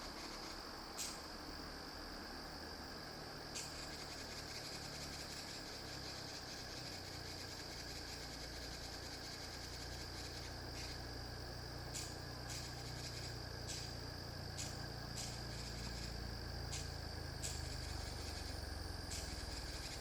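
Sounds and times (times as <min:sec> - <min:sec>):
insect trilling: 0:00.0 - 0:20.0
low steady hum: 0:00.0 - 0:20.0.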